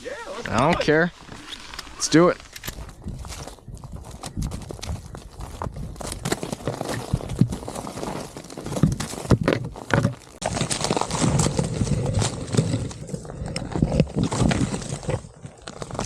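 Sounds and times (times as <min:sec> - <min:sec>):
footsteps on rough ground: 0:00.1 - 0:16.0.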